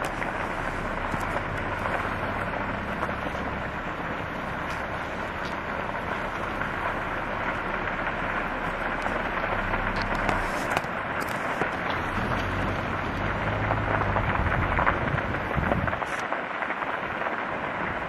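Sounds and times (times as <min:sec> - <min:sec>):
fire crackles: 0:00.0 - 0:18.0
grass fire rushing: 0:00.0 - 0:18.0.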